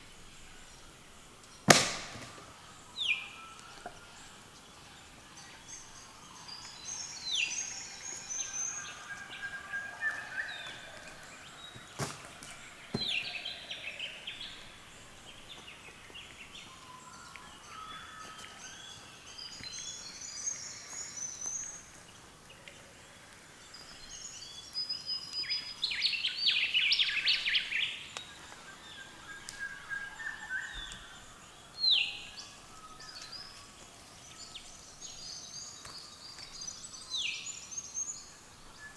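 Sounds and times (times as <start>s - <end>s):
birds calling and singing: 0.0s - 38.9s.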